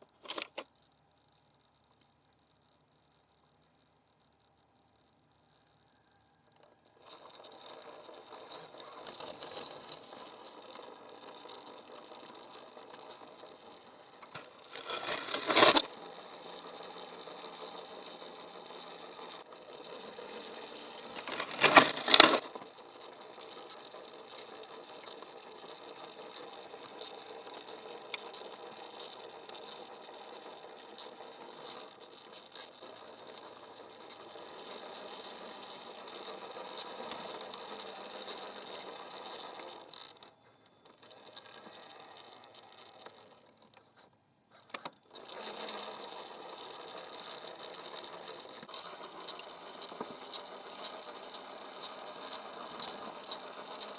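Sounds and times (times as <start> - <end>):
toy car electric motor whining: 0.2 - 0.7, 5.5 - 44.0, 44.6 - 53.9.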